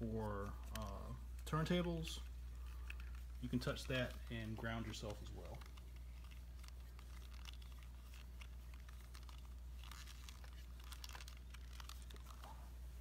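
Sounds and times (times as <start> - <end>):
low steady hum: 0.0 - 13.0
small clicks and rustles: 0.2 - 13.0.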